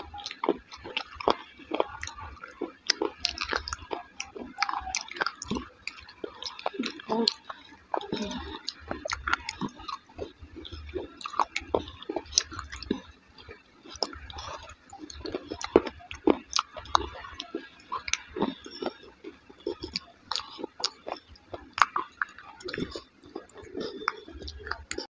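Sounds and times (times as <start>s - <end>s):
wet chewing mouth clicks: 0.0s - 25.0s.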